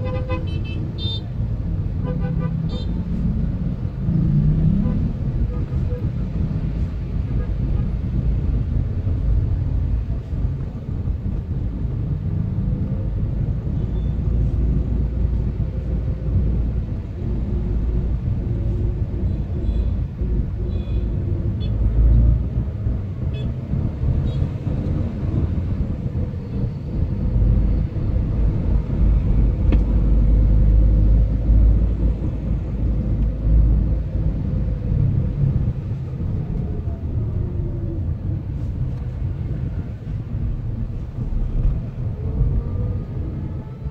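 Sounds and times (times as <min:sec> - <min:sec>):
car engine and tyres rumbling: 0:00.0 - 0:43.9
motorcycle and car engines humming: 0:00.0 - 0:43.9.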